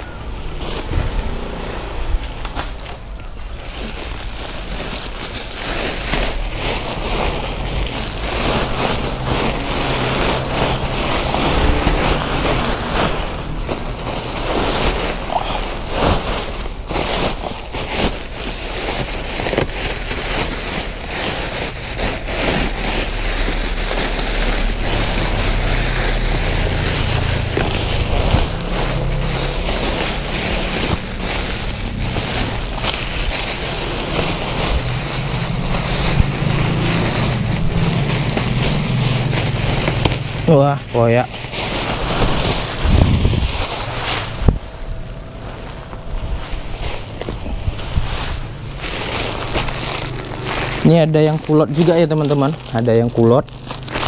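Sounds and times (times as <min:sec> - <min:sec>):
plastic bags rustling: 0:00.0 - 0:54.0.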